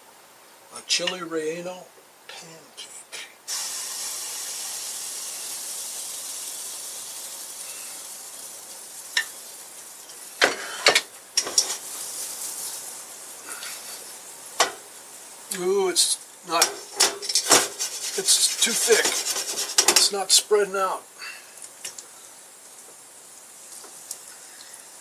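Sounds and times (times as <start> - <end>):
batter sizzling in skillet: 3.5 - 25.0.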